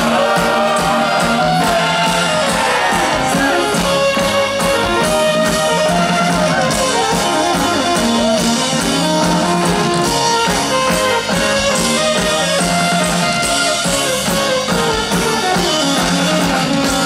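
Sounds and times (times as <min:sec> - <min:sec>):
indie pop band playing: 0:00.0 - 0:17.0.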